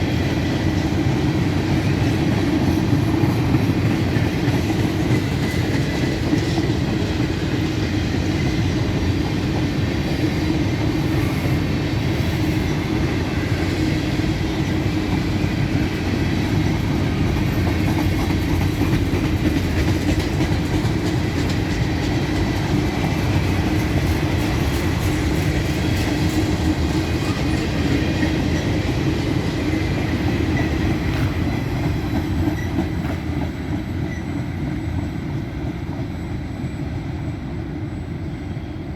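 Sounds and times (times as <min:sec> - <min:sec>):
train wheels on rails: 0:00.0 - 0:38.9.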